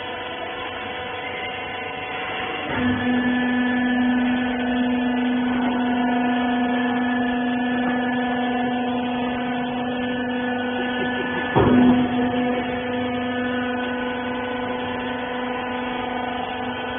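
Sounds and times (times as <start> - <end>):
hydraulic pump humming: 0.0 - 16.9.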